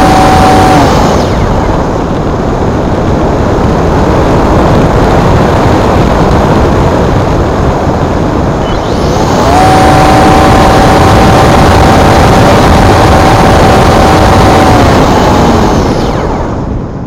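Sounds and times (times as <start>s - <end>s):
electric motor and propeller whining: 0.0s - 17.0s
wind noise on microphone: 0.0s - 17.0s.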